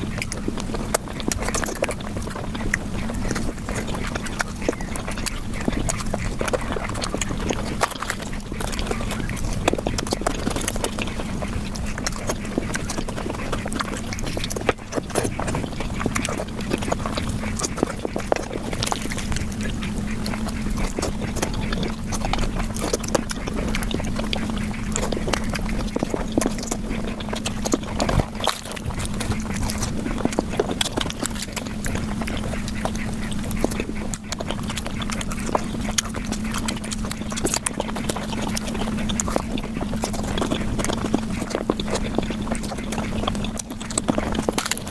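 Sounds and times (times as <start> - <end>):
sped-up chewing and mouth noises: 0.0 - 44.9
steady low hum: 0.0 - 44.9.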